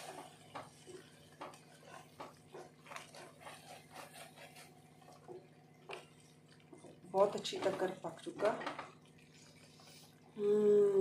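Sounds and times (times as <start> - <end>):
gravy bubbling in a pan: 0.0 - 11.0.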